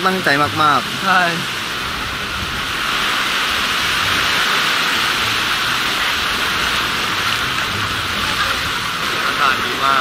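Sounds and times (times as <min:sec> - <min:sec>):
waves breaking on beach: 0:00.0 - 0:10.0.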